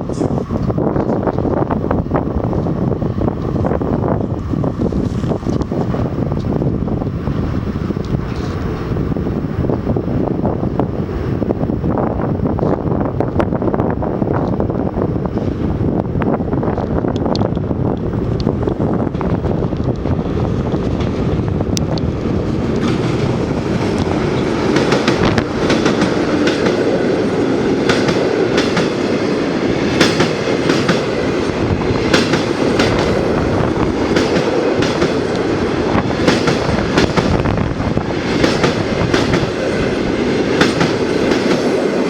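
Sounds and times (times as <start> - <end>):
train rumbling across steel bridge: 0.0 - 42.0.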